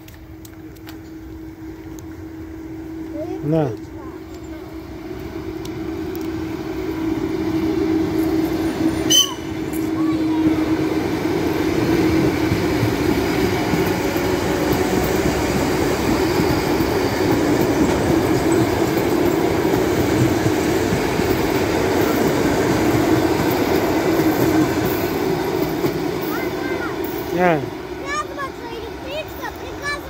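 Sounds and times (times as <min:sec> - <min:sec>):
low train hum: 0:00.0 - 0:30.0
train wheels rolling on rails: 0:00.0 - 0:30.0.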